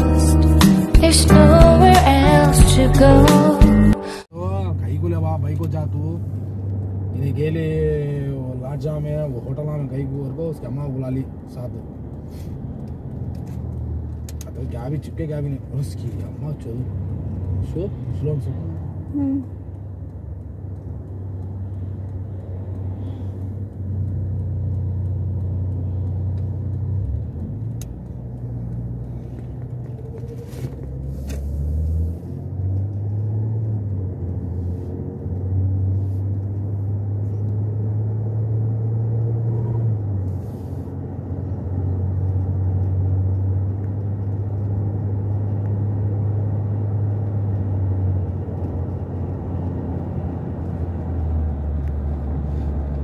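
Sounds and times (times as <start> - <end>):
car engine and road drone: 0.0 - 53.0.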